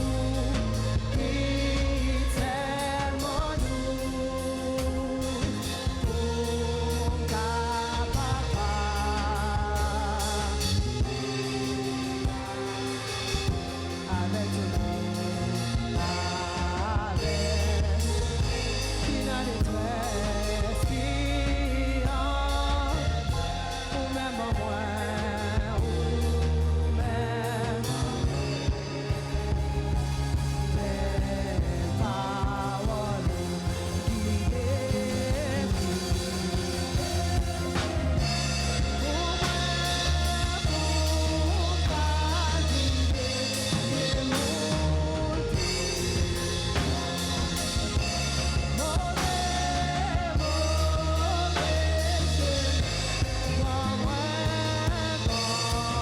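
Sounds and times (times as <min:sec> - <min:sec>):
gospel band playing: 0:00.0 - 0:56.0
people singing: 0:00.0 - 0:56.0.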